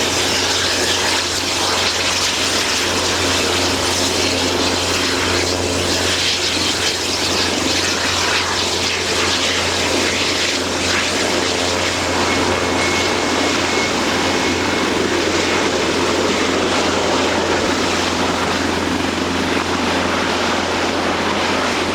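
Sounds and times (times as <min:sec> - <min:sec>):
helicopter engines and rotors: 0:00.0 - 0:21.9.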